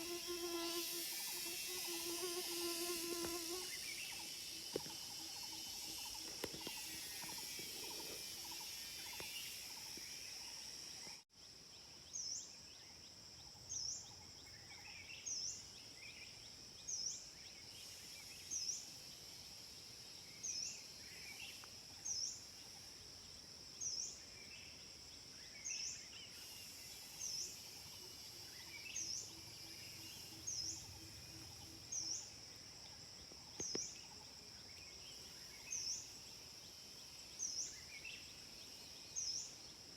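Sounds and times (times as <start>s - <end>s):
short sweeping insect call: 0.0s - 11.3s, 13.6s - 39.9s
cicadas droning: 0.0s - 39.9s.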